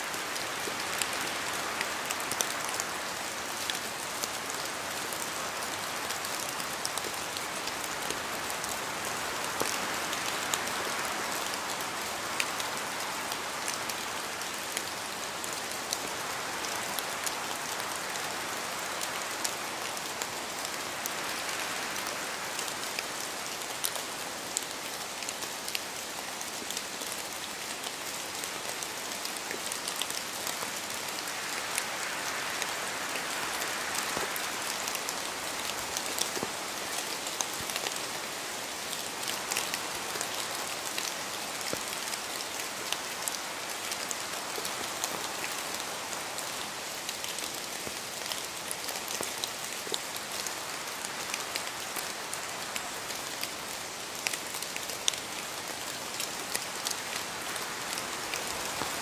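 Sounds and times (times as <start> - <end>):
steady rain hiss: 0.0 - 59.0
raindrops ticking on a surface: 0.1 - 59.0.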